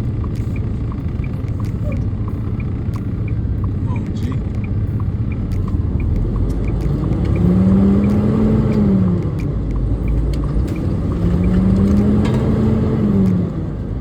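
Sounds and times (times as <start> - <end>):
truck diesel engine in cab: 0.0 - 14.0.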